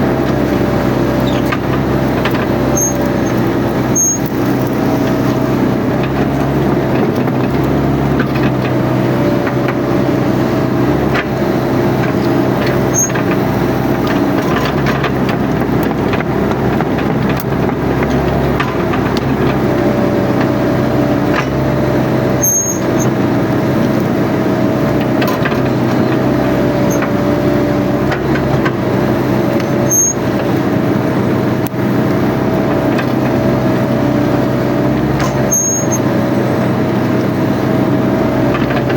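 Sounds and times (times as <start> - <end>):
excavator diesel engine running: 0.0 - 38.9
hydraulic whine: 0.0 - 38.9.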